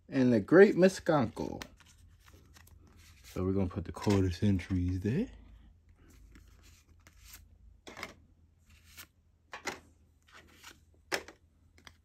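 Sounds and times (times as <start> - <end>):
playing cards rustling and scraping: 0.6 - 5.3, 5.9 - 12.0.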